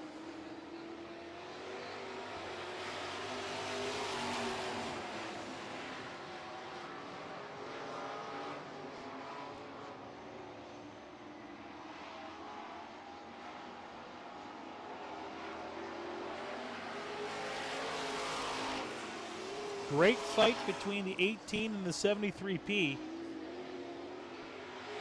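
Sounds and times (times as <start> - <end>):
racing truck engines: 0.0 - 25.0.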